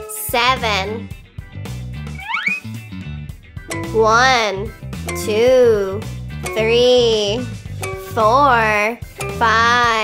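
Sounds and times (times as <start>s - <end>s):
upbeat guitar and bass music: 0.0s - 10.0s.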